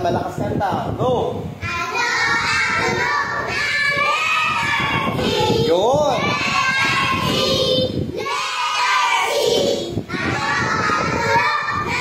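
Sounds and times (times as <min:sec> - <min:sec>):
children chanting together: 0:01.6 - 0:12.0.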